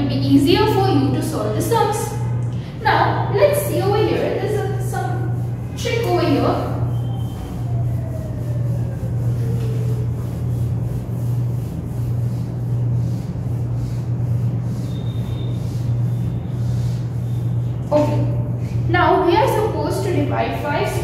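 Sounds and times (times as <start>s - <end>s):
steady low hum: 0.0s - 21.0s
duster rubbing whiteboard: 2.8s - 21.0s.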